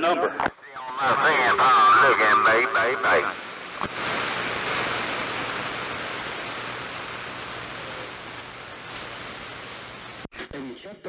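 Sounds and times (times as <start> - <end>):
radio static hiss: 0.0 - 10.5.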